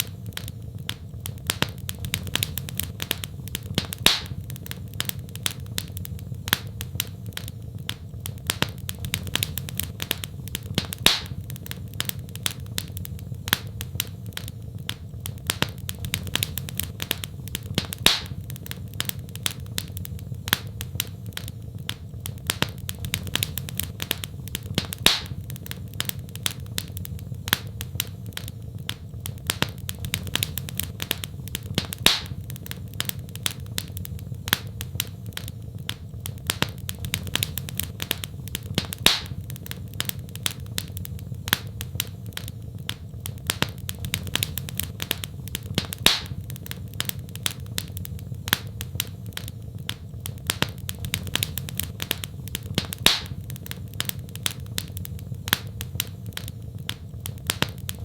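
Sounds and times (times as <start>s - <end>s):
fireplace fire crackling: 0.0s - 58.0s
loud pop from fire: 0.0s - 58.0s
low rumble of fire: 0.0s - 58.0s.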